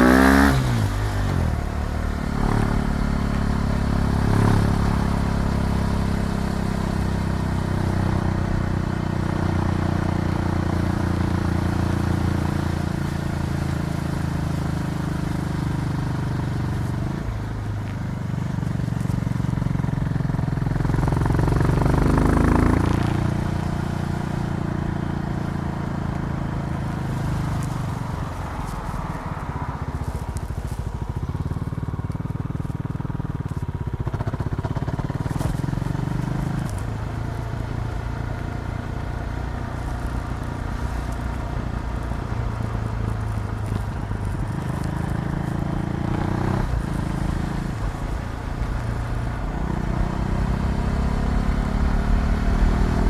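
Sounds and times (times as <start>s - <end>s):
motorcycle engine revving: 0.0s - 17.4s, 18.3s - 53.0s.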